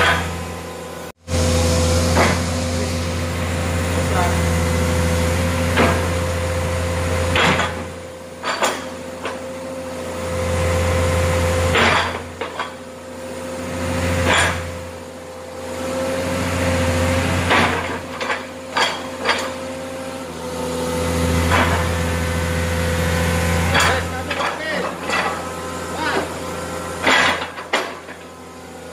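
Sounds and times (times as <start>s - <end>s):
excavator diesel engine running: 0.0s - 28.9s
steady hydraulic whine: 0.0s - 28.9s.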